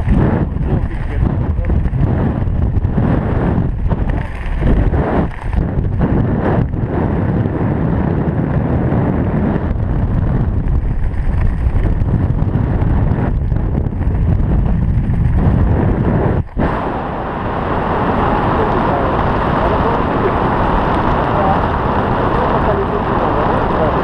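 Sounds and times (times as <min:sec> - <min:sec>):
loud wind buffeting microphone: 0:00.0 - 0:24.0.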